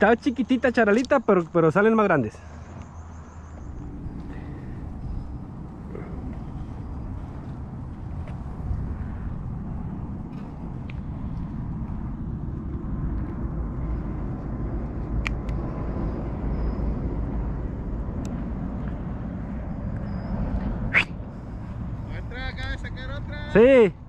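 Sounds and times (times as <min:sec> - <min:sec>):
wind buffeting microphone: 0:02.7 - 0:24.0.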